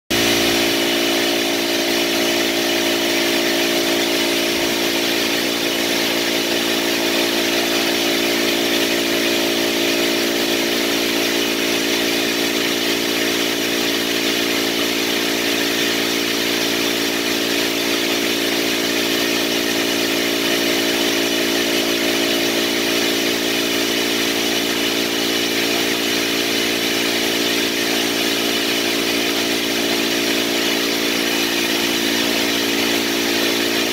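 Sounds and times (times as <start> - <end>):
steady machine drone: 0.1 - 33.9.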